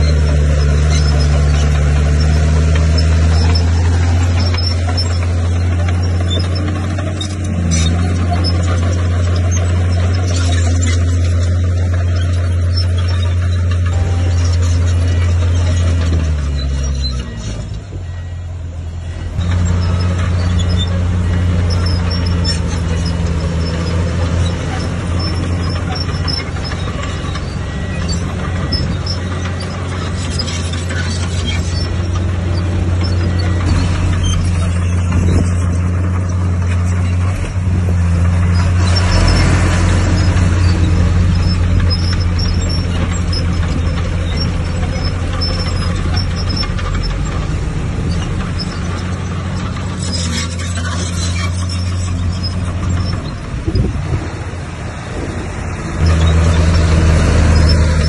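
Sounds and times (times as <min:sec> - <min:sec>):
heavy diesel engine humming: 0:00.0 - 0:58.0.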